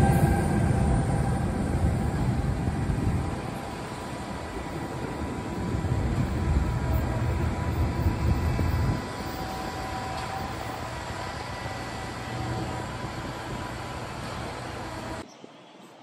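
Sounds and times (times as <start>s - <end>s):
diesel train rumbling: 0.0s - 15.2s.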